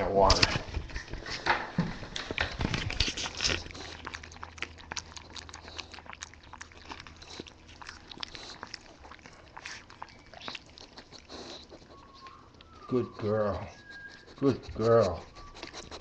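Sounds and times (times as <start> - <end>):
puppy lapping water: 2.0 - 16.0.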